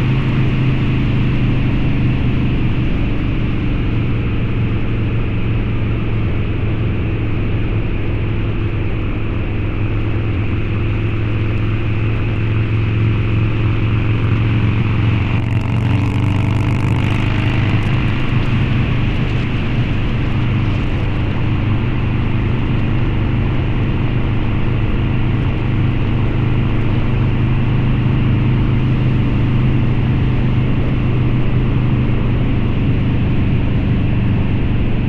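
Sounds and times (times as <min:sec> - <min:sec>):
motorcycle engine cruising: 0:00.0 - 0:35.0.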